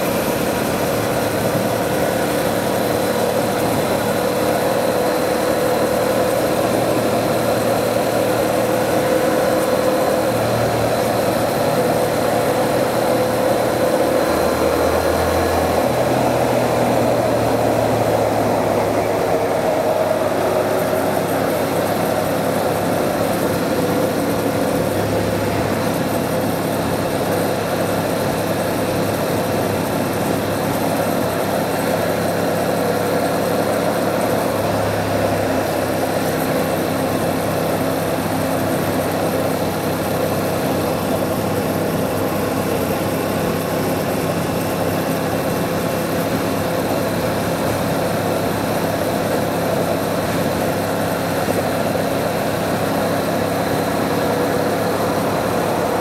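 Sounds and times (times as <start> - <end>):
motorcycle engine cruising: 0.0 - 56.0
road and wind noise: 0.0 - 56.0.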